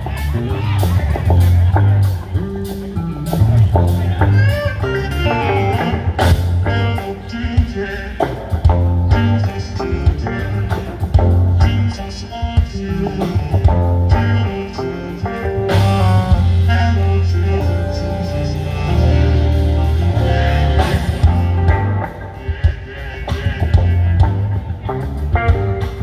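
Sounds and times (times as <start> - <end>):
drum kit: 0.0 - 26.0
electric bass: 0.0 - 26.0
electric guitar: 0.0 - 26.0
keyboards: 0.0 - 26.0.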